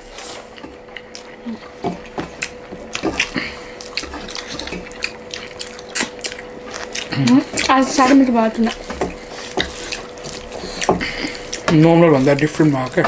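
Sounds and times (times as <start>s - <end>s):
faint steady hum: 0.0s - 13.0s
fingers squishing food on plates: 0.5s - 13.0s
wet chewing and lip-smacking: 0.5s - 13.0s.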